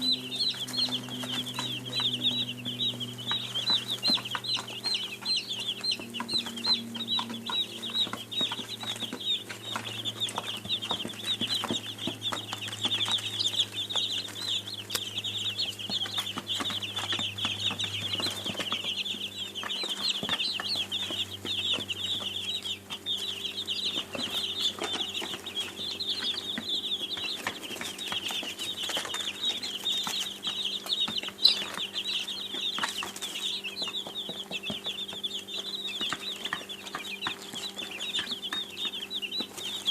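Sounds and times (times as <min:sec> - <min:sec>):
chicks peeping: 0:00.0 - 0:39.9
low steady hum: 0:00.0 - 0:39.9.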